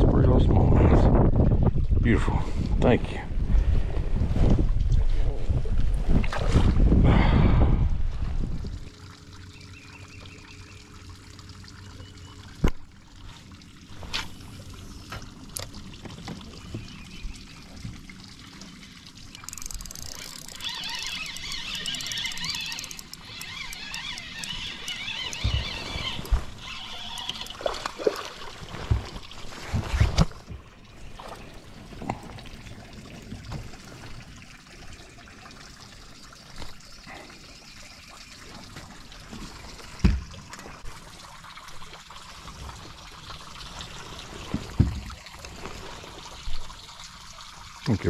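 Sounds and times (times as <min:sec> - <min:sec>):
water trickling and splashing: 0:00.9 - 0:07.0, 0:07.7 - 0:48.0.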